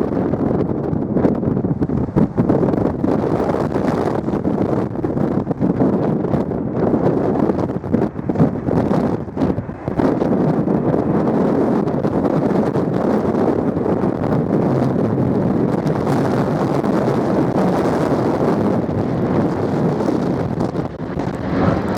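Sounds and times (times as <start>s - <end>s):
jet engines: 0.0s - 21.9s
wind buffeting microphone: 0.0s - 21.9s.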